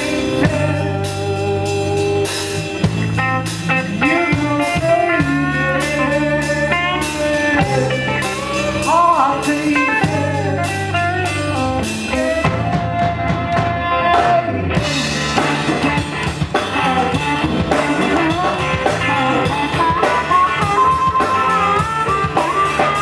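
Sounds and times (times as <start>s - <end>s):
bass guitar: 0.0s - 23.0s
electric guitar bending notes: 0.0s - 23.0s
steady drum beat: 0.0s - 23.0s.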